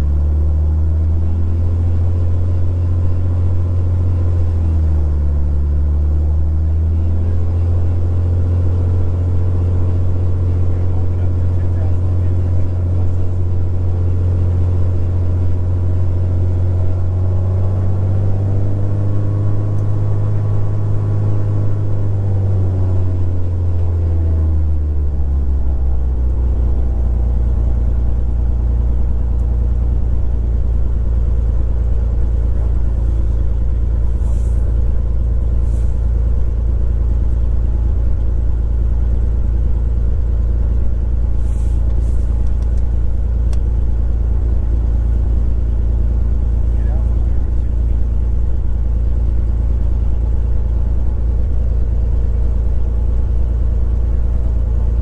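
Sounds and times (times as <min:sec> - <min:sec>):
piston airplane engine running: 0:06.7 - 0:55.0.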